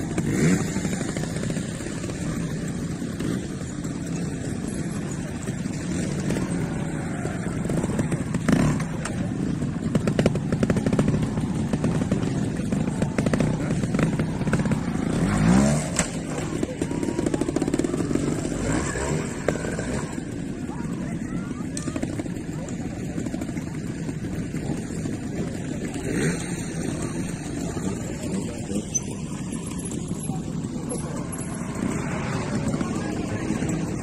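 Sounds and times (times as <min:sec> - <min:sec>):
motorcycle engine chugging and revving: 0:00.0 - 0:34.0.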